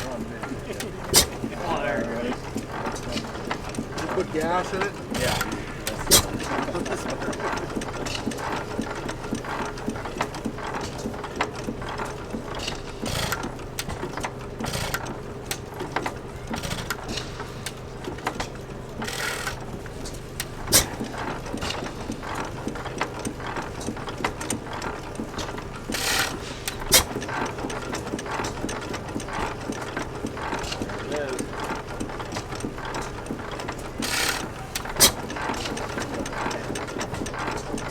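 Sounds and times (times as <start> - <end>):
hit-and-miss engine running: 0.0 - 37.9
sharp engine cracks: 0.0 - 37.9
valve gear clicking and clattering: 0.0 - 37.9.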